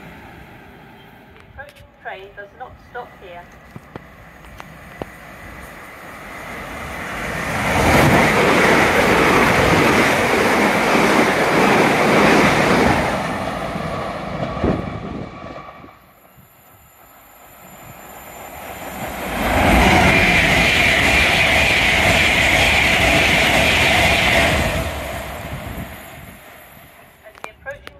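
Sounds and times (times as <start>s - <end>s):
electric train passing at speed: 0.0s - 27.7s
train whine over rumble: 0.0s - 27.7s.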